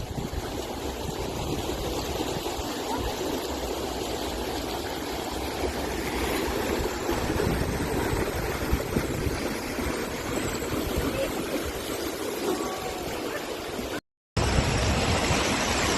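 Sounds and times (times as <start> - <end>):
water rushing at a weir: 0.0 - 15.9.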